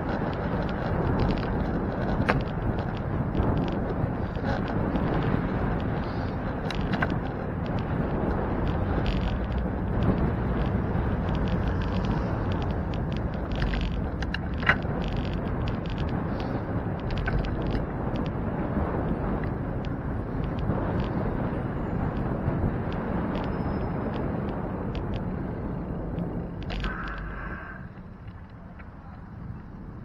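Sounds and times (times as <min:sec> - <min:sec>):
bicycle clicks and rattles: 0:00.0 - 0:30.0
wind and road noise: 0:00.0 - 0:30.0.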